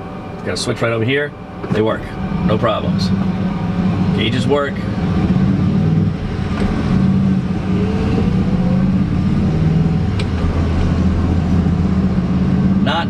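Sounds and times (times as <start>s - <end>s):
faint rising tone: 0.0s - 12.9s
pickup engine running: 0.0s - 13.0s.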